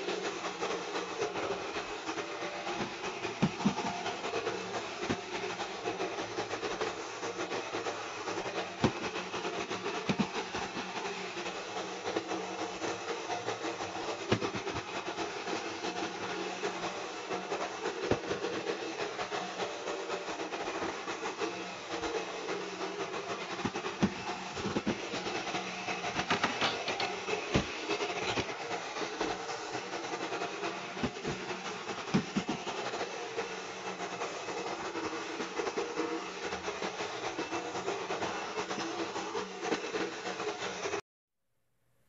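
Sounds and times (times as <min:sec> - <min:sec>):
robot vacuum whirring: 0:00.0 - 0:41.0.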